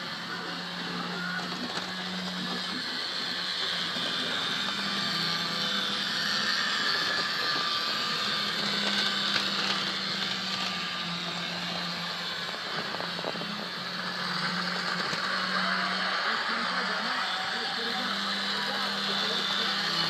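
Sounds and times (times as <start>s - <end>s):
model train motor whirring: 0.0s - 20.0s.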